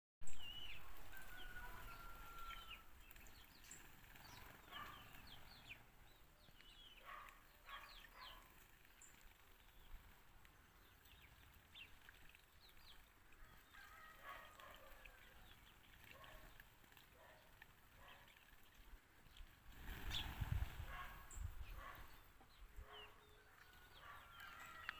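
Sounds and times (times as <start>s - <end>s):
sparrows chirping: 0.3s - 24.9s.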